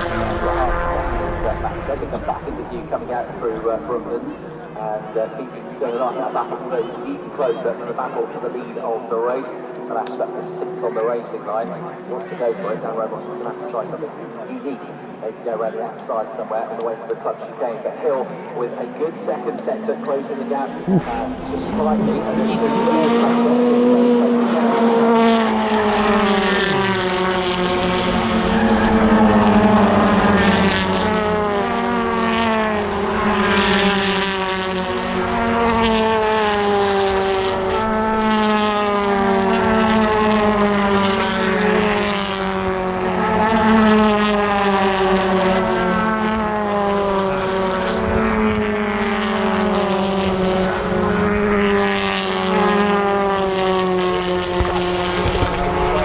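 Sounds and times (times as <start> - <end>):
racing car engines revving: 0.0 - 56.0.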